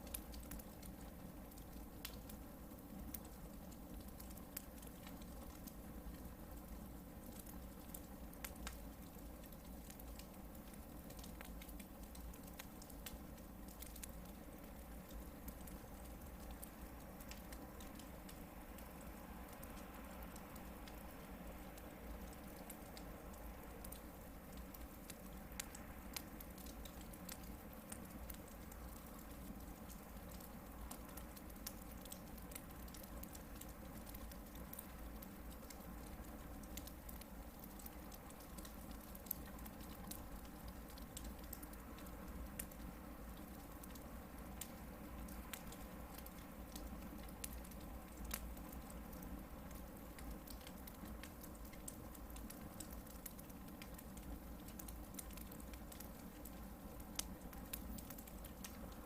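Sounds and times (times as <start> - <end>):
campfire crackling and popping: 0.0 - 59.0
low fire hiss: 0.0 - 59.0.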